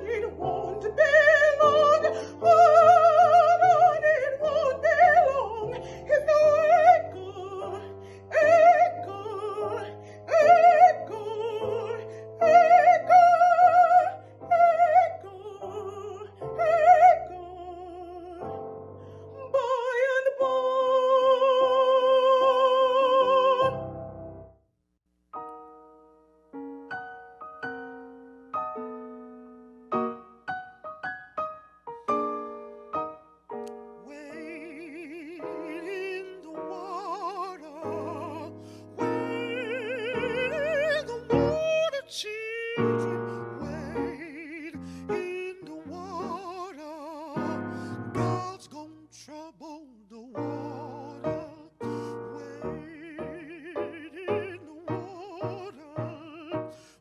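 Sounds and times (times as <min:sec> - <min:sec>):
soprano singing with vibrato: 0:00.0 - 0:18.6, 0:19.3 - 0:23.9, 0:33.9 - 0:57.0
piano: 0:00.0 - 0:24.7, 0:25.3 - 0:57.0.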